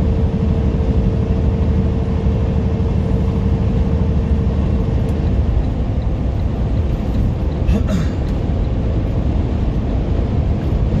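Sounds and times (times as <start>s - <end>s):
diesel engine and road noise drone: 0.0s - 11.0s.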